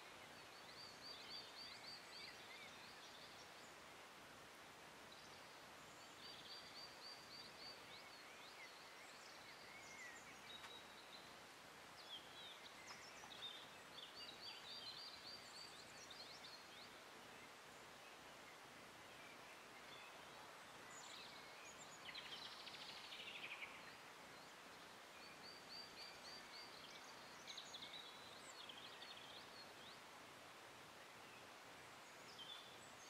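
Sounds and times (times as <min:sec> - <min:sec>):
low outdoor hiss: 0:00.0 - 0:33.0
birds chirping and trilling: 0:04.9 - 0:33.0.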